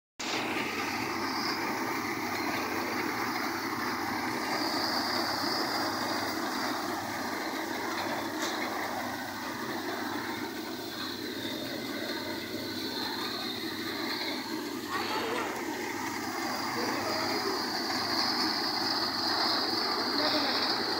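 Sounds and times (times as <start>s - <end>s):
threshing machine running: 0.2s - 20.9s.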